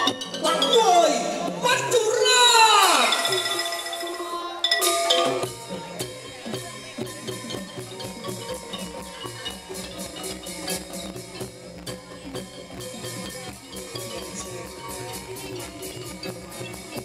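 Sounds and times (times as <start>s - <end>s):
drums playing: 0.0s - 17.0s
mallet-struck tuned percussion: 0.0s - 17.0s.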